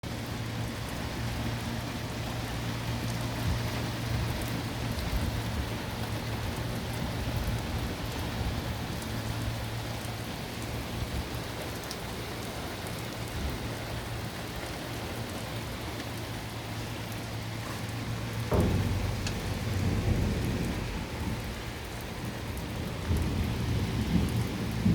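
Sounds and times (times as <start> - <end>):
rain on hard surfaces: 0.0 - 24.9
thunder rumble: 0.2 - 24.9.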